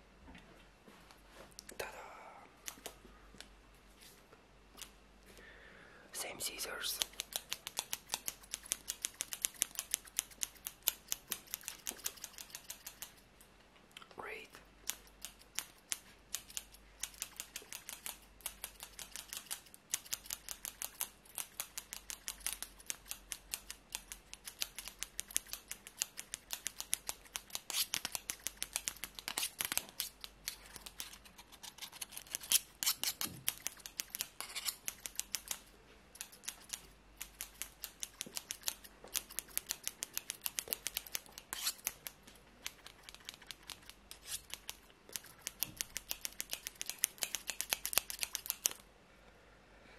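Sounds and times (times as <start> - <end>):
scissors snipping: 6.8 - 13.2, 14.8 - 48.8.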